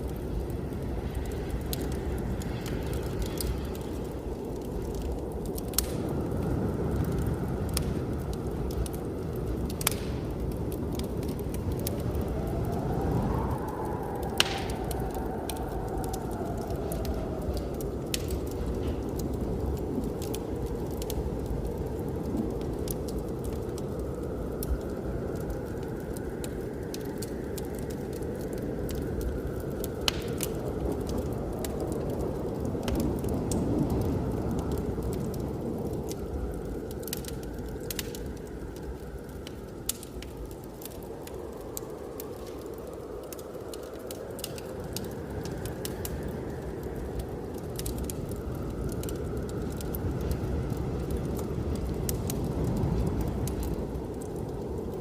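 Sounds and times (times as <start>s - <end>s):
blizzard wind rumbling: 0.0s - 55.0s
wood fire crackling: 0.0s - 55.0s.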